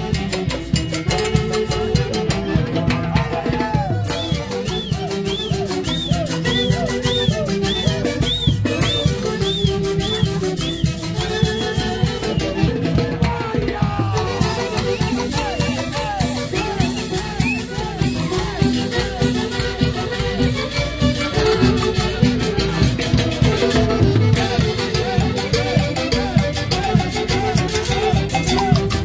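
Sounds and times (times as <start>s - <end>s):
live band music with quick beat: 0.0s - 29.0s.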